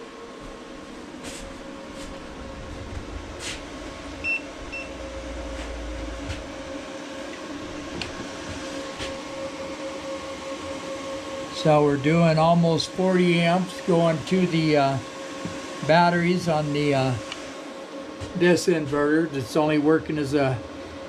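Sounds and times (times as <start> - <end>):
electrical hum of inverters: 0.0 - 21.0.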